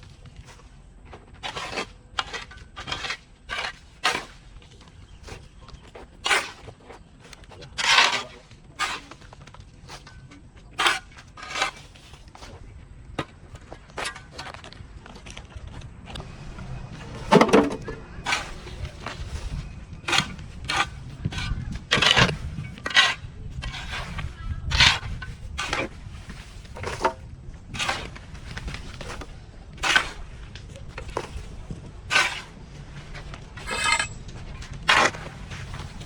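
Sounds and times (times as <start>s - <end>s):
hand tools scraping and chopping grass: 0.0s - 36.0s.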